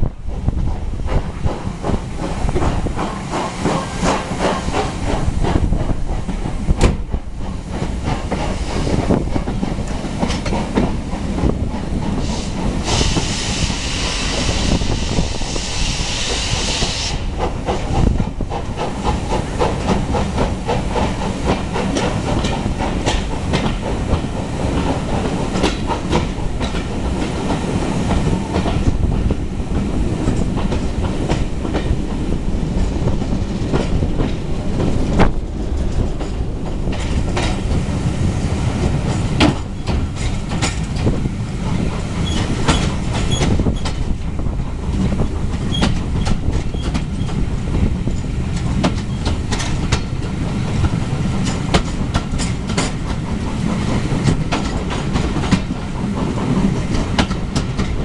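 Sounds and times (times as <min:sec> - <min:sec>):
train wheels rumbling on rails: 0:00.0 - 0:58.0
wheels clickety-clack over rail joints: 0:00.0 - 0:58.0.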